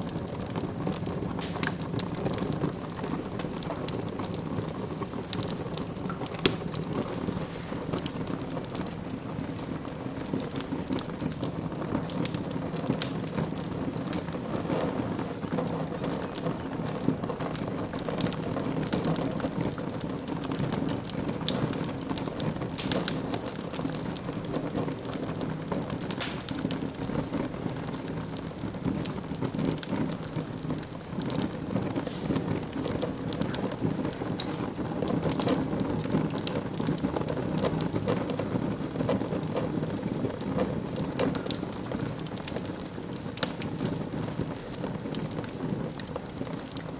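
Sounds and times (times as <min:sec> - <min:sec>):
fireplace fire crackling: 0:00.0 - 0:46.9.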